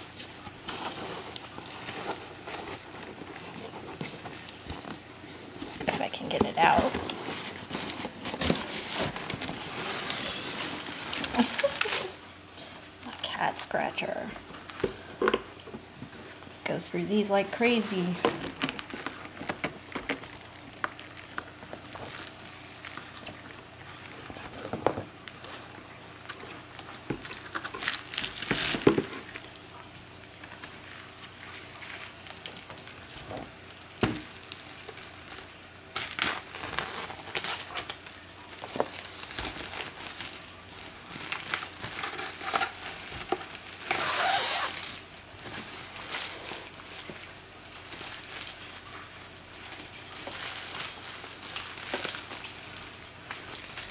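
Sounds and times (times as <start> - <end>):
plastic wrapping crinkling and tearing: 0.0 - 16.6, 17.3 - 53.9.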